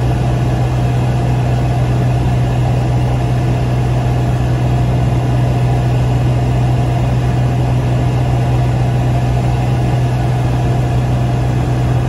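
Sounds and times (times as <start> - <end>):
aircraft engine drone in cabin: 0.0 - 12.0.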